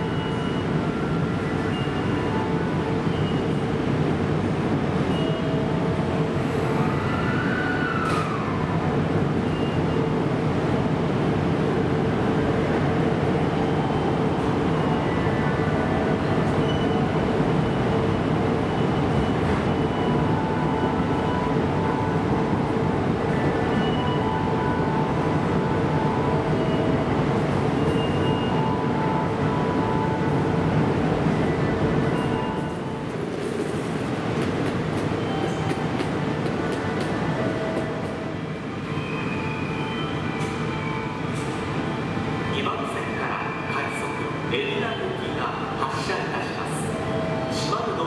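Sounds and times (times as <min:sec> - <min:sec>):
electric train rumbling: 0:00.0 - 0:48.0.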